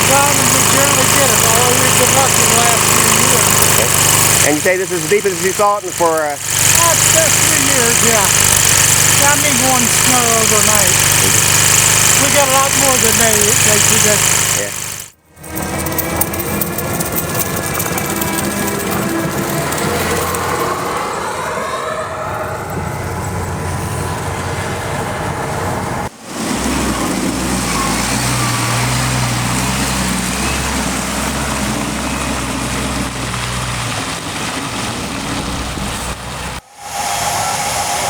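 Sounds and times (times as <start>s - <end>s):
engine hum: 0.0s - 38.0s
traffic rushing: 0.0s - 38.0s.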